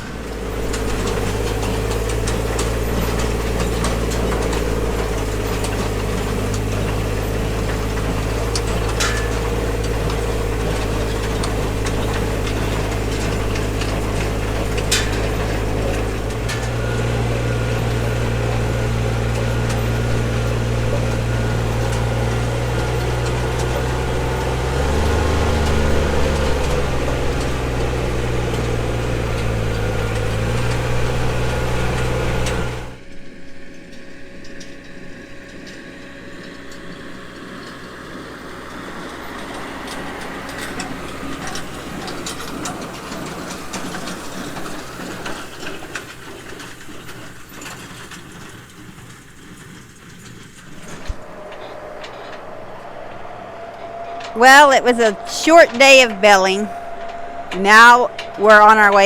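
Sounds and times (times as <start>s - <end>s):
vehicle engine running loudly: 0.0s - 33.0s, 36.8s - 59.0s
rough rumble of moving vehicle: 0.0s - 59.0s.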